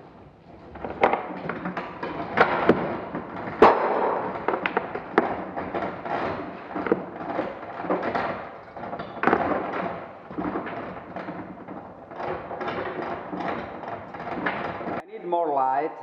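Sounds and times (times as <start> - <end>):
anchor chain clanking and rattling: 0.0 - 15.0.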